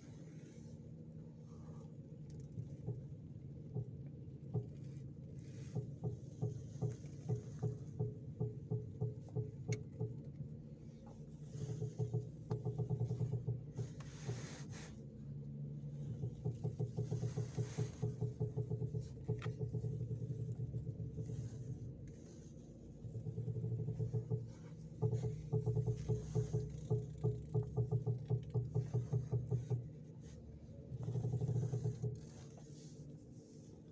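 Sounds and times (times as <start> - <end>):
car engine idling: 0.0 - 33.9
steering knocking and creaking: 0.0 - 33.9.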